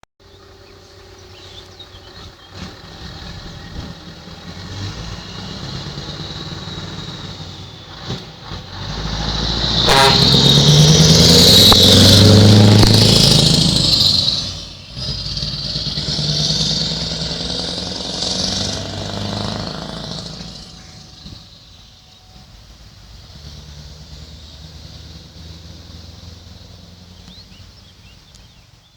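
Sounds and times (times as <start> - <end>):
truck engine driving past: 0.2 - 28.6.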